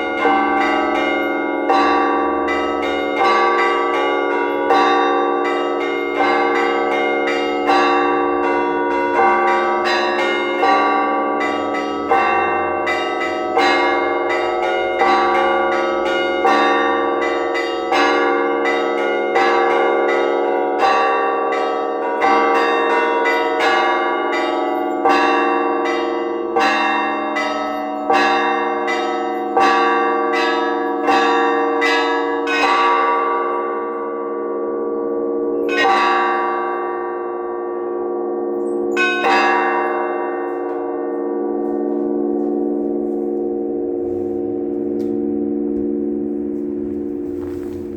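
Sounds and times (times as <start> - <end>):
heavy church bell strikes: 0.0 - 47.9
small church bells chiming: 0.0 - 47.9.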